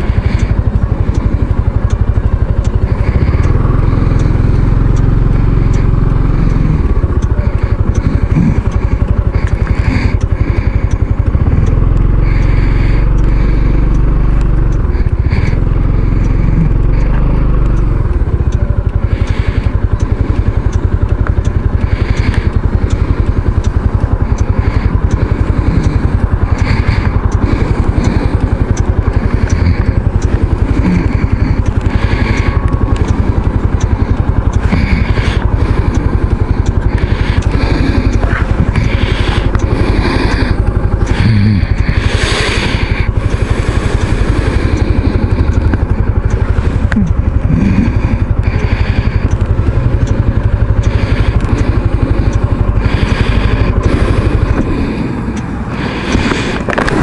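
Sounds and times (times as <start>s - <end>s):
scooter engine rumbling: 0.0s - 57.0s.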